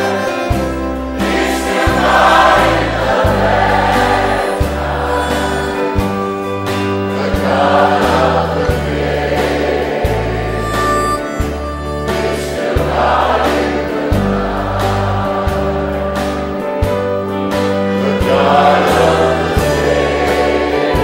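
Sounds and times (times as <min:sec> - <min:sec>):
choir singing slow religious song: 0:00.0 - 0:10.8, 0:12.0 - 0:21.0
sustained bass notes: 0:00.0 - 0:21.0.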